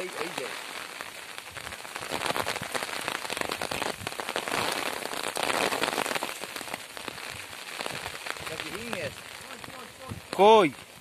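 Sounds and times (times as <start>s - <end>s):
rain falling on shallow water: 0.0s - 11.0s.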